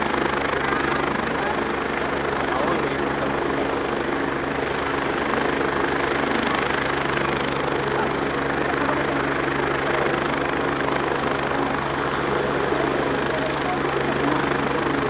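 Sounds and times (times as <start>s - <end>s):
helicopter engines and rotor roaring: 0.0s - 15.0s.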